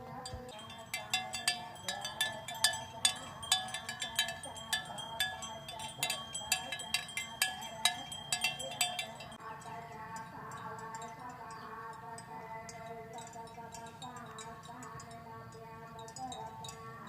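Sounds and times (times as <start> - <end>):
cowbells clanking: 0.2 - 17.0.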